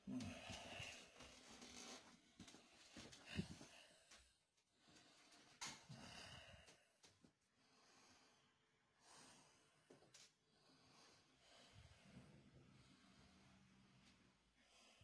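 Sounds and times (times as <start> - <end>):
faint breathing: 0.2 - 15.0.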